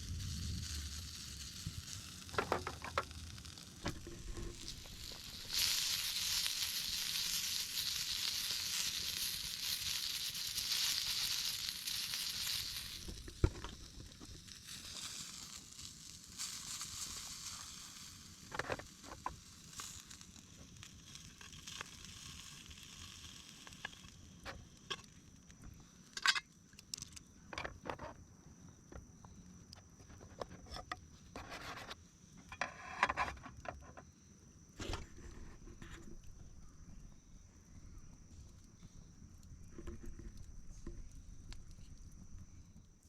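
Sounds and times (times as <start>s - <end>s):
campfire crackling: 0.0s - 30.5s, 34.8s - 43.0s.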